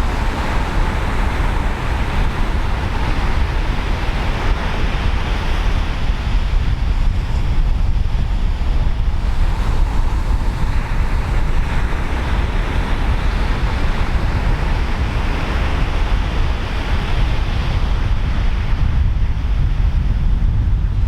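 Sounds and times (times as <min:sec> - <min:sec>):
ocean surf breaking: 0:00.0 - 0:07.3, 0:08.2 - 0:18.8
wind buffeting microphone: 0:00.0 - 0:21.0.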